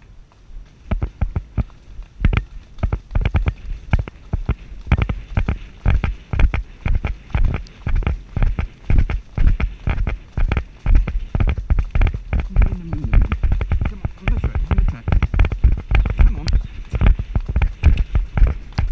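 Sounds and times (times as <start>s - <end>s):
horse hooves on dirt: 0.0s - 18.9s.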